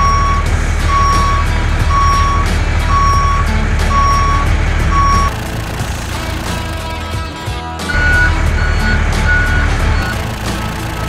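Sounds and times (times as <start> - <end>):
reversing alarm beeping: 0.0 - 6.7, 7.9 - 11.0
low engine rumble: 0.0 - 11.0.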